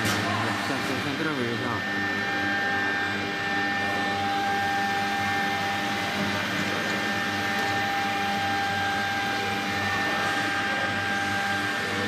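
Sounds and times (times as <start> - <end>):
cnc router motors whining: 0.0 - 12.0.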